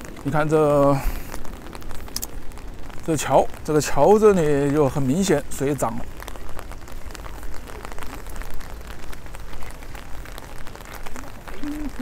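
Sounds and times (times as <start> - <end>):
rain drop ticks: 0.0 - 12.0
steady rain hiss: 0.0 - 12.0.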